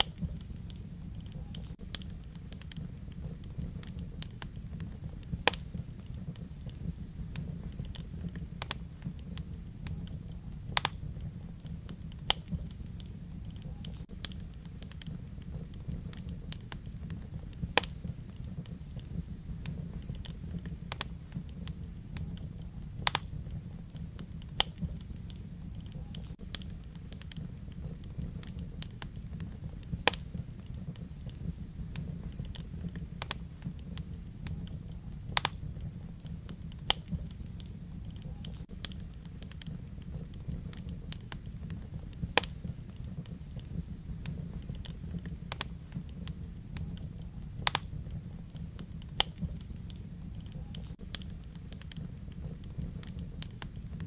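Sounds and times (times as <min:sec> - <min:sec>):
fire crackles and pops: 0:00.0 - 0:54.0
fire rumbling in a fireplace: 0:00.0 - 0:54.0.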